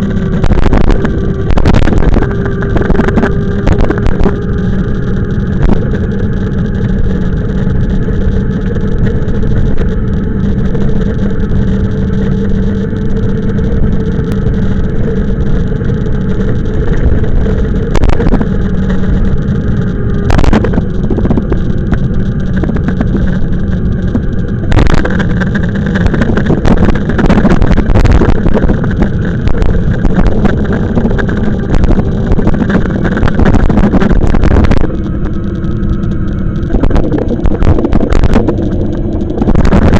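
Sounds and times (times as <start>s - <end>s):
motor and tyre hum: 0.0s - 39.9s
wind buffeting microphone: 0.0s - 39.9s.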